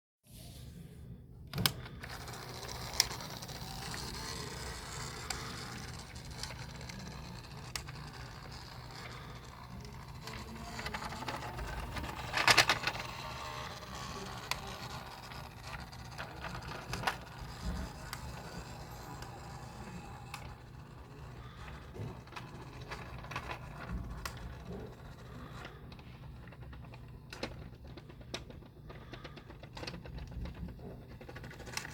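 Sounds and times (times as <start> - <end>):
small motor running: 1.6 - 27.6, 30.2 - 31.9.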